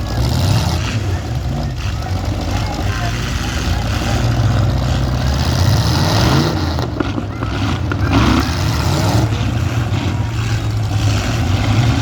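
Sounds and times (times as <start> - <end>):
car engines revving loudly: 0.0 - 12.0.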